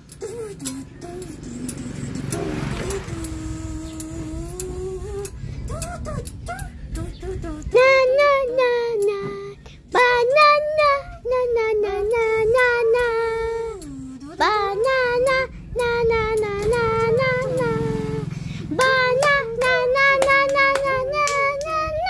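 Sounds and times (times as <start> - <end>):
boy singing: 0.0 - 22.0.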